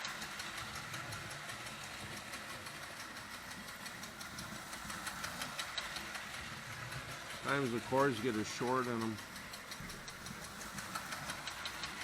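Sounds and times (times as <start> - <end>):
toy train whirring and clattering: 0.0 - 12.0
faint regular ticks: 0.1 - 12.0.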